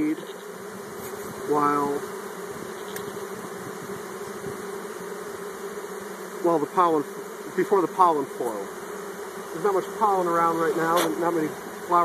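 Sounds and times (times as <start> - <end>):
bees humming: 0.0 - 12.0.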